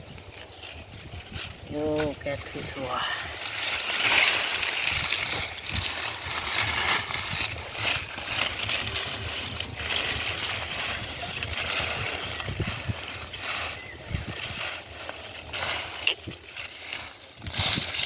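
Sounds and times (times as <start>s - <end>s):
muddy water sloshing and splashing: 2.6s - 18.0s.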